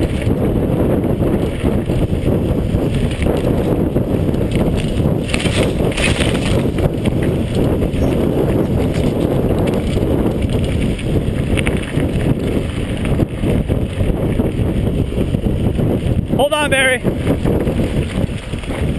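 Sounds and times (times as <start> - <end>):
bike clicking and rattling: 0.0 - 16.4, 17.0 - 18.9
bike tyres rolling over dirt: 0.0 - 18.9
wind buffeting microphone: 0.0 - 18.9.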